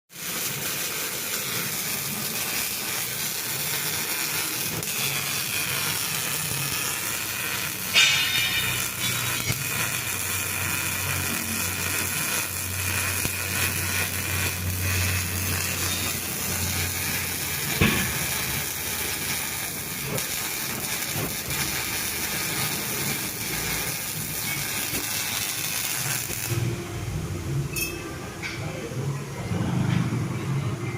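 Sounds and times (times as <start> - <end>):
welding arc crackling and hissing: 0.1 - 26.7.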